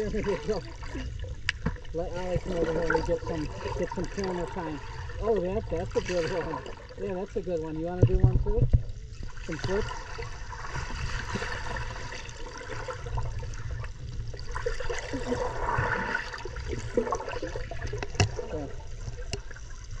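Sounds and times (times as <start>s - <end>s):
constant low rumble: 0.0s - 20.0s
muffled underwater pool water rushing: 0.0s - 20.0s.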